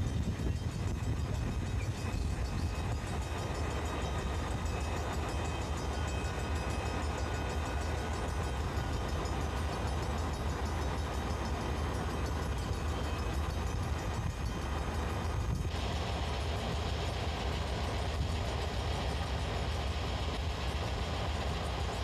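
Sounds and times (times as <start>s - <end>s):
diesel locomotives idling: 0.0s - 22.0s.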